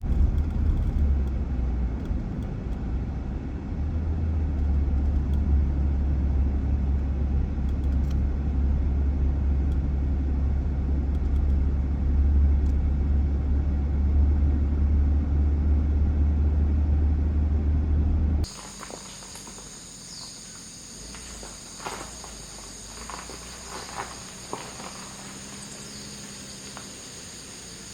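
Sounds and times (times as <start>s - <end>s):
engine and road noise rumble: 0.0s - 27.9s.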